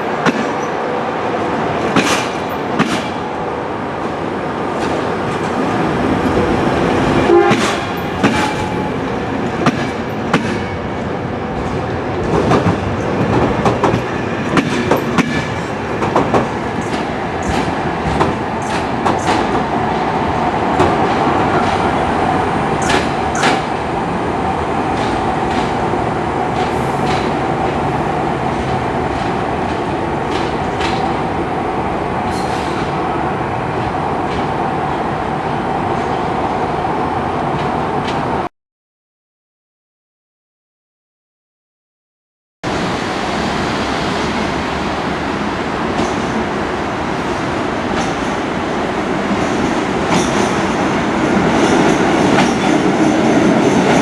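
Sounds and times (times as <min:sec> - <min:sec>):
train running on rails: 0:00.0 - 0:38.5, 0:42.7 - 0:54.0.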